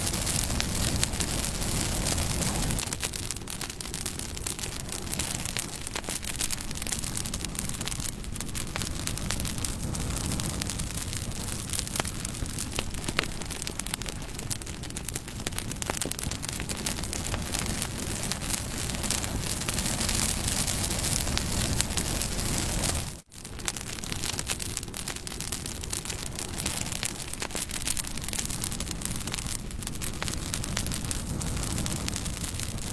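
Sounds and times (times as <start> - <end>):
burning wood crackling and popping: 0.0 - 32.9
rushing flames: 0.0 - 32.9.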